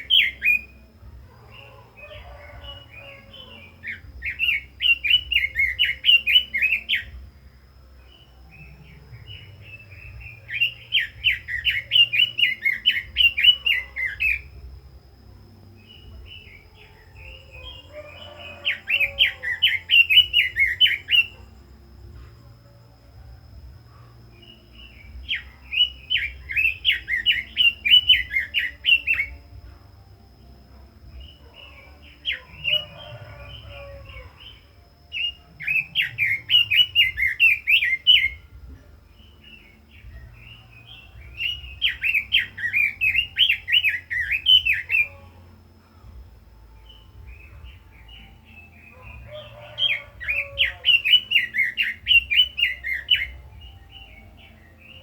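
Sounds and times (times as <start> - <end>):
bird warbling song: 0.0 - 23.0, 23.6 - 55.0.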